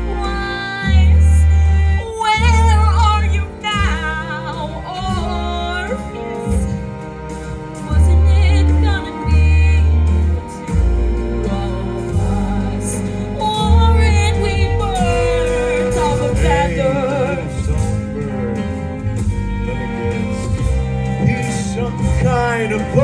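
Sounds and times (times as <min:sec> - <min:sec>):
sustained low bass: 0:00.0 - 0:23.0.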